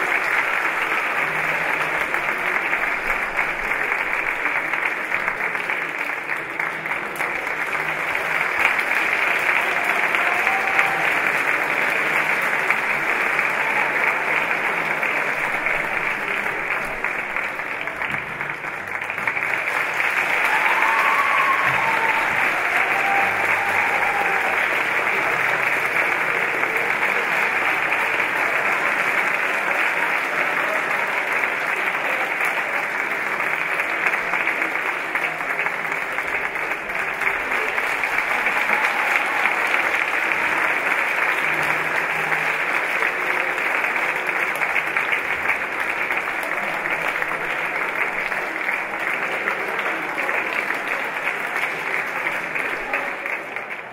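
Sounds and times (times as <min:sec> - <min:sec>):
theatre audience applauding: 0:00.0 - 0:53.9.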